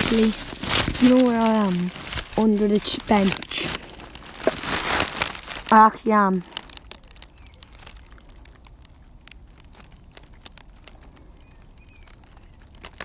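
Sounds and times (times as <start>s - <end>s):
rustling grass and clothing: 0.0s - 13.0s.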